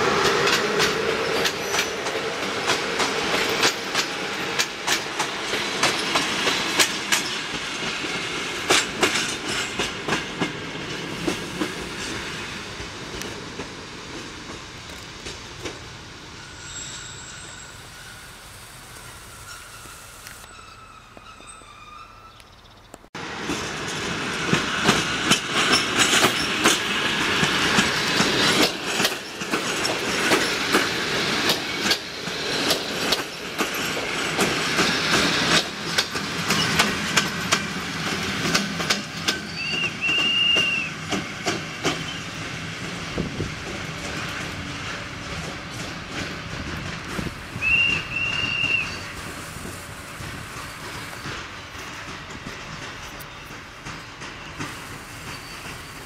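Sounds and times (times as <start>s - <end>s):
train wheels clattering over joints: 0.0s - 16.0s, 23.4s - 56.0s.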